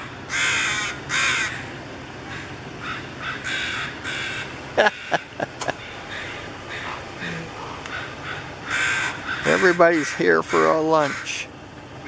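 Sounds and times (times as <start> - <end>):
ravens cawing: 0.0 - 11.5.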